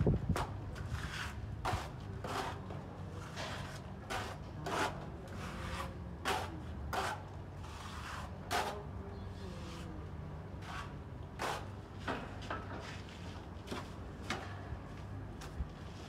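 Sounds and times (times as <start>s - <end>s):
trowel scraping render on wall: 0.1s - 9.9s, 10.6s - 13.9s.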